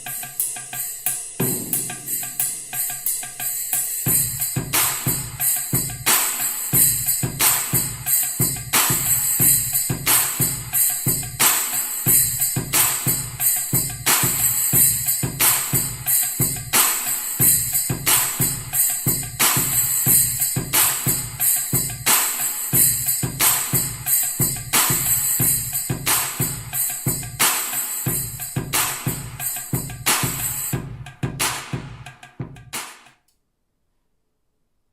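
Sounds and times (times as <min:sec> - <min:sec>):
tambourine-like percussion: 0:00.0 - 0:33.2.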